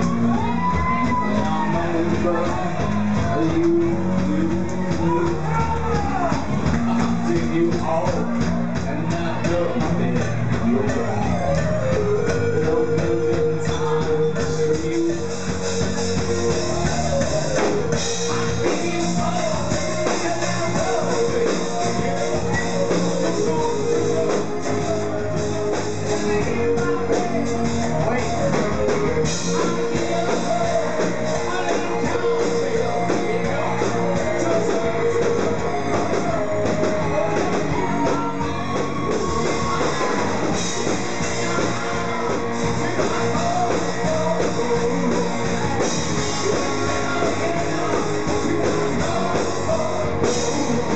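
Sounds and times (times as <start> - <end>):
electric guitars: 0.0 - 50.9
live rock band playing: 0.0 - 50.9
person singing: 0.0 - 50.9.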